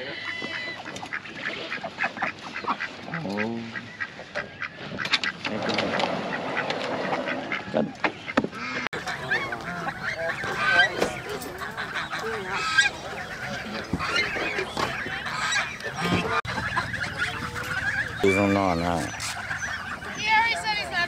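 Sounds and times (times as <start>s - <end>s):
geese honking: 0.0s - 21.0s.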